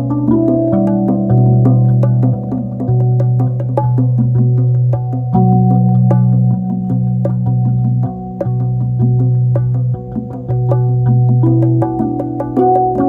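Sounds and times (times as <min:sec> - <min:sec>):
bongo taps: 0:00.0 - 0:13.0.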